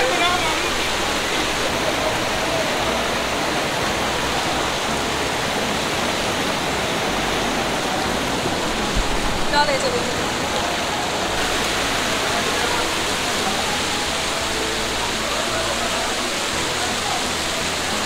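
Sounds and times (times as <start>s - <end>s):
waterfall roaring over rocks: 0.0s - 18.0s.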